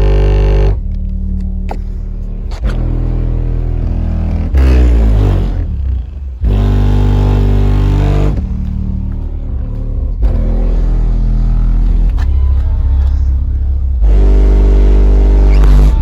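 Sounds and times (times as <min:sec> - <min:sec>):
bass-heavy music from subwoofer: 0:00.0 - 0:16.0.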